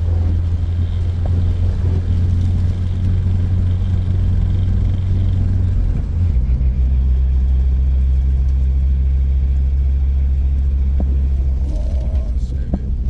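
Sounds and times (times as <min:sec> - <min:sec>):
car engine humming in cabin: 0:00.0 - 0:13.0.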